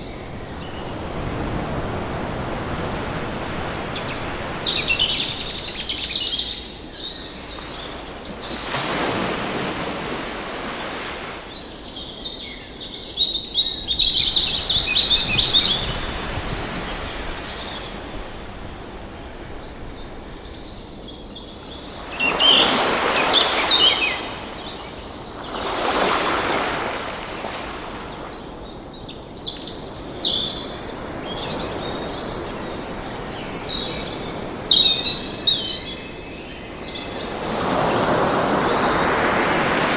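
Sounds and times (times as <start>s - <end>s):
waves washing in: 0.0s - 11.9s, 13.8s - 28.6s, 29.7s - 39.9s
songbirds chirping and trilling: 0.0s - 39.9s.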